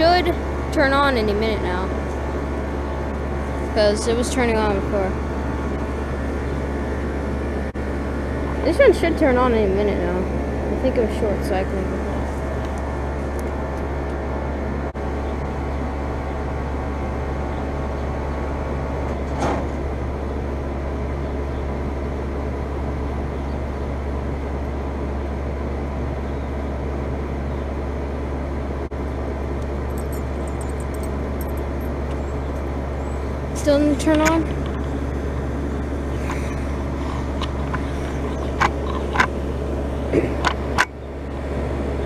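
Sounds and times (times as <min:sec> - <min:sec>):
heat pump hum and fan: 0:00.0 - 0:42.0.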